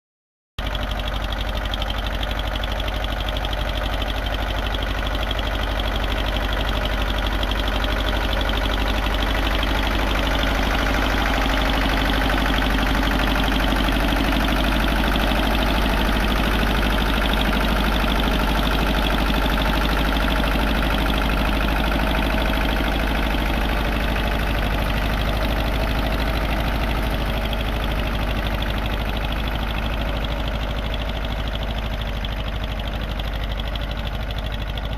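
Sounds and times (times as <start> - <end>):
tractor diesel engine running: 0.6 - 34.9.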